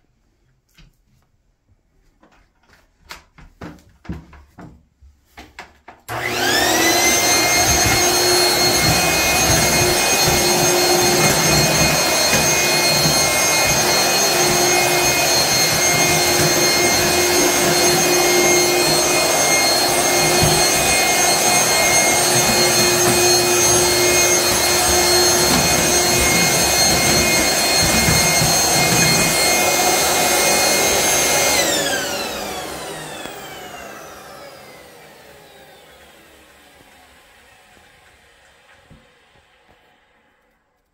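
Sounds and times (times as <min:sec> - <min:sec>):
vacuum cleaner motor whine: 0:06.1 - 0:40.6.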